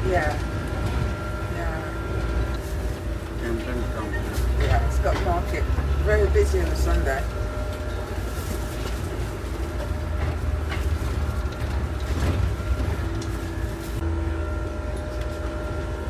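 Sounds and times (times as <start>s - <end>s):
bus engine and road rumble: 0.0s - 16.0s
faint whining tones: 0.0s - 16.0s.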